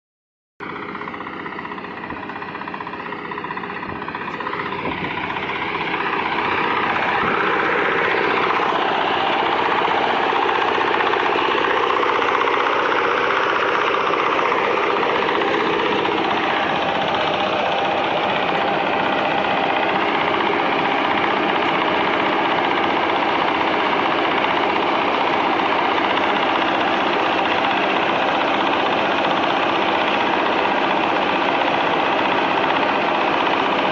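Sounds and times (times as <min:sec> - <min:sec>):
harvester engine running: 0:00.6 - 0:33.9.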